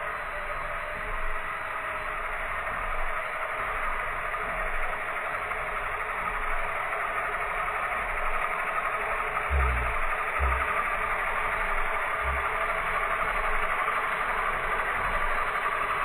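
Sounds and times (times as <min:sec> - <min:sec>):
toy helicopter rotor whirring: 0:00.0 - 0:16.0.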